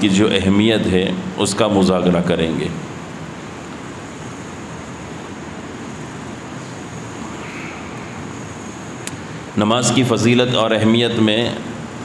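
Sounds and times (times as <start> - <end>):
fan or air conditioning noise: 0.0 - 12.0.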